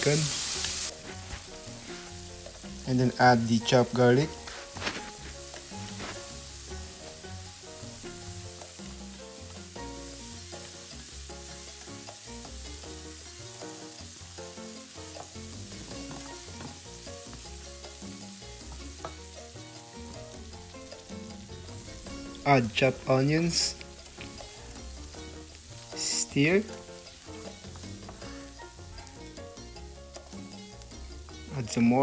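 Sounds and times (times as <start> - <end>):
background music: 0.0 - 32.0
garlic and bacon sizzling: 0.0 - 32.0.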